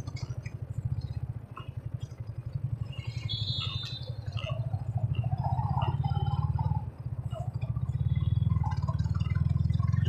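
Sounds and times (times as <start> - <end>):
motorcycle engine puttering: 0.0 - 10.0.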